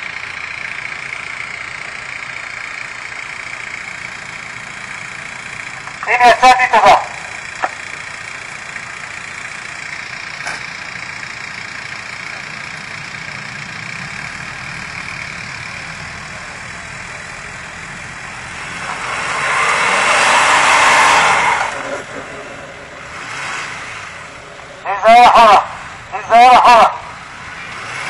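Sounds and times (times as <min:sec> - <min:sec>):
truck engine idling and revving: 0:00.0 - 0:28.0.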